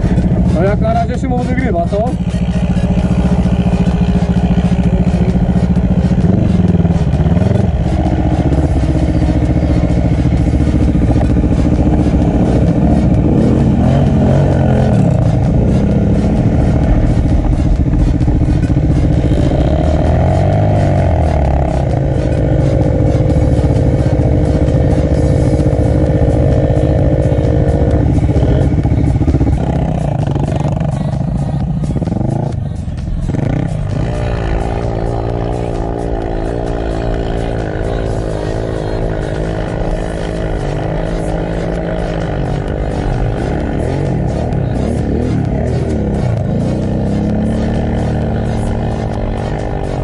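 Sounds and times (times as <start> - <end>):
quad engines revving: 0.0 - 50.0.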